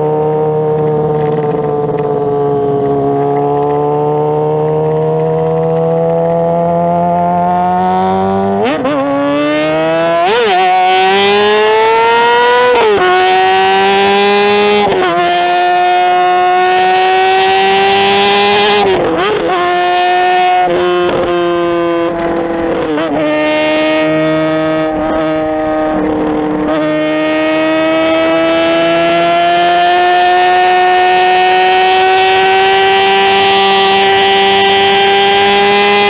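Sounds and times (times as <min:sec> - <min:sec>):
motorcycle engine at high revs: 0:00.0 - 0:36.0.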